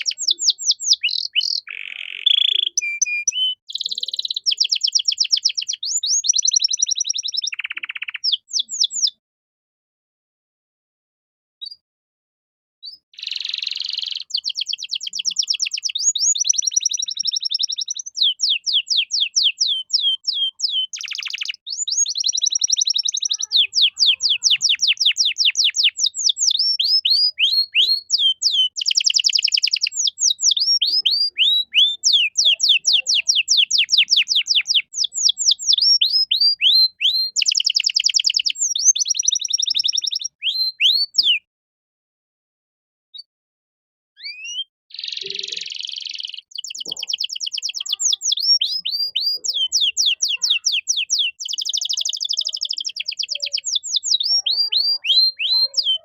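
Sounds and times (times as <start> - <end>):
canary singing: 0.0 - 9.2, 12.8 - 41.5, 44.2 - 56.0.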